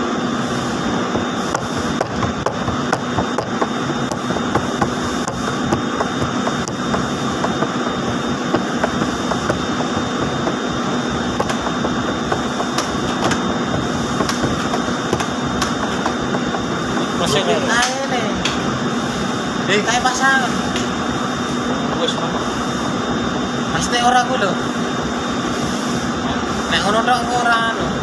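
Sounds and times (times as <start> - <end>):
spinning mill machinery hum: 0.0 - 28.0.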